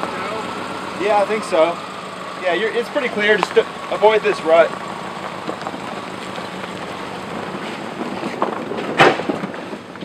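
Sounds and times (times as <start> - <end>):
car engine crawling on trail: 0.0 - 10.0.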